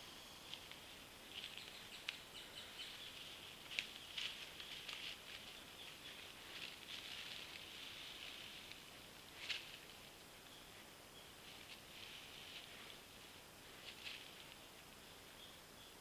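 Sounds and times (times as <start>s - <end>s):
faint high hiss: 0.0s - 16.0s
crackles of dry leaf litter: 0.3s - 15.3s.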